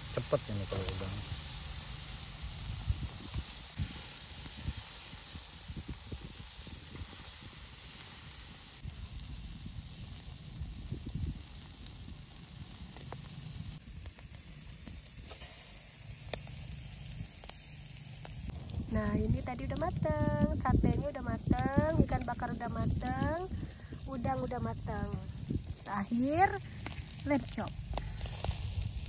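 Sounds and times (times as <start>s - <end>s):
shrimp sizzling on a grill: 0.0s - 29.0s.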